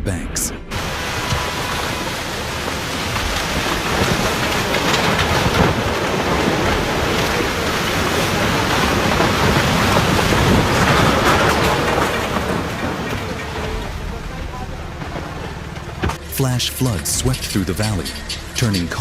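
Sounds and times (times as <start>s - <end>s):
rushing floodwater roar: 0.7s - 19.0s.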